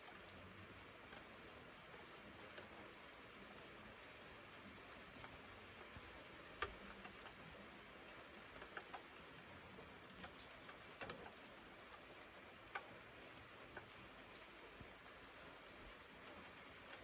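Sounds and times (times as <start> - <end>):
light rain hiss: 0.0 - 17.0
raindrops ticking: 0.0 - 17.0.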